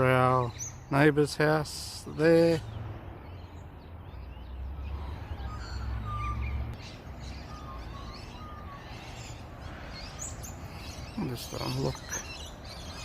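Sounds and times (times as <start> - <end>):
birds chirping and whistling: 0.0 - 13.0
outdoor ambience: 0.0 - 13.0.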